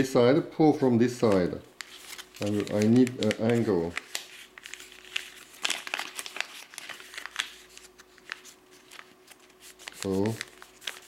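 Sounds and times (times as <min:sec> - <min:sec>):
paper crinkling and crackling: 0:01.2 - 0:11.0.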